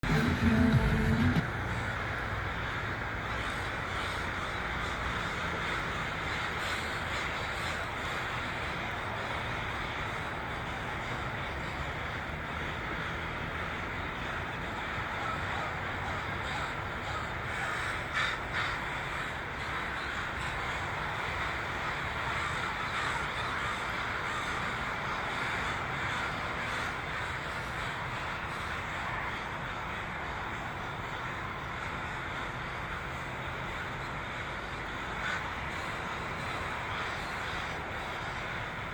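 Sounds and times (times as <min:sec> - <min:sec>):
flock of crows cawing: 0:01.8 - 0:38.9.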